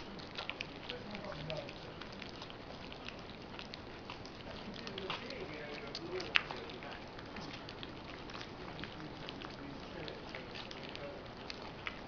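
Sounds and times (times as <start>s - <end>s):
puppies eating wet smacking and lapping: 0.0s - 12.0s.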